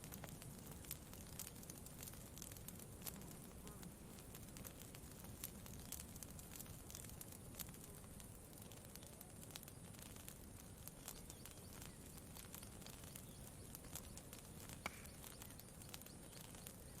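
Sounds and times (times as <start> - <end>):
campfire crackling: 0.0 - 17.0
low background hiss: 0.0 - 17.0.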